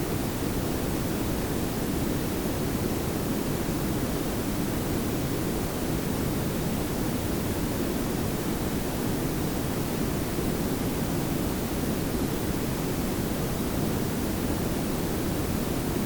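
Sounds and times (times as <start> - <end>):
steady noise hiss: 0.0 - 16.0.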